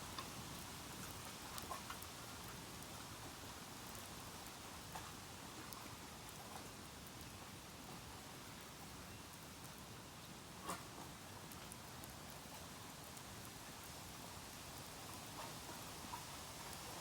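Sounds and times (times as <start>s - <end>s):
bamboo crackling in campfire: 0.0s - 17.0s.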